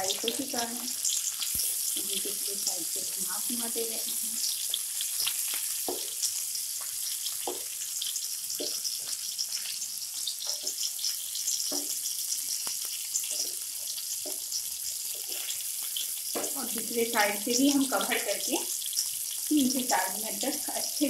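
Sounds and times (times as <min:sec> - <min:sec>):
crackling sizzle of frying: 0:00.0 - 0:21.0.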